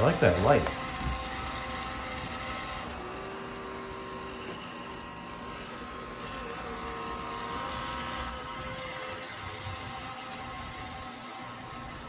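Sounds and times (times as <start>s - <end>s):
robot vacuum motor whine: 0.0s - 12.0s.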